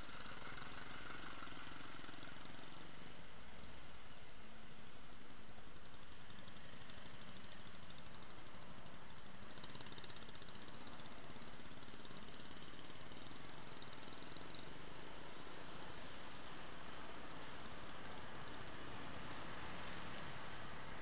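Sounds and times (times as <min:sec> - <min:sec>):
city traffic: 0:00.0 - 0:21.0.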